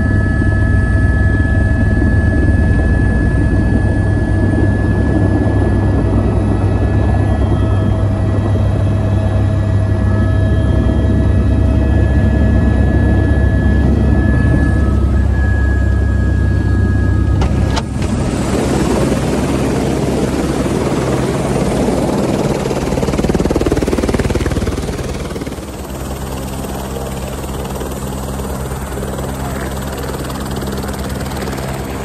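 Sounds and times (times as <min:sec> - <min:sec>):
helicopter engine and rotor: 0:00.0 - 0:32.0
low drone inside cabin: 0:00.0 - 0:32.0.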